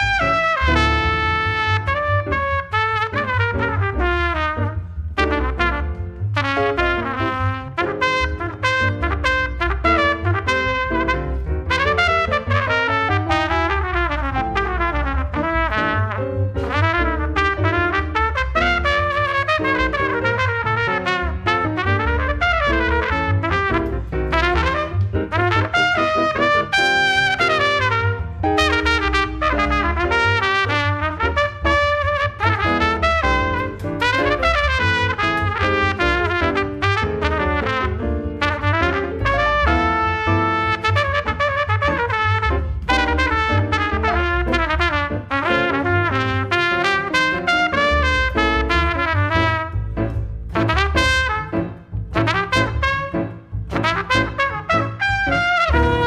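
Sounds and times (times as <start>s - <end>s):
plucked upright bass: 0.0s - 56.0s
trumpet jazz solo: 0.0s - 56.0s.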